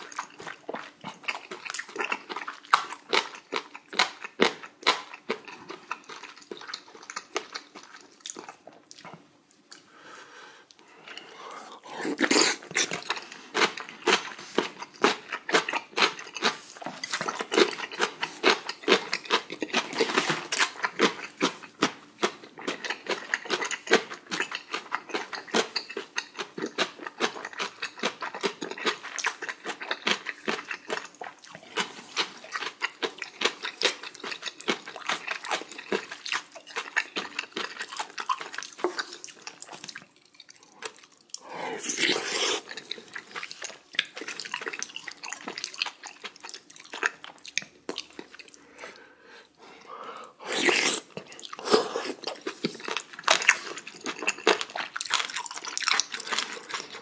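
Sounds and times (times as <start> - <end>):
wet chewing and smacking: 0.0 - 9.9, 12.1 - 49.1, 50.7 - 57.0.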